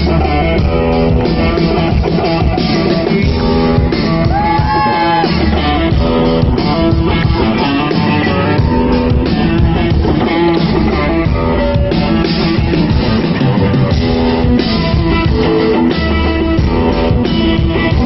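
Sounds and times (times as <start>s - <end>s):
live pop-rock music: 0.0s - 18.0s.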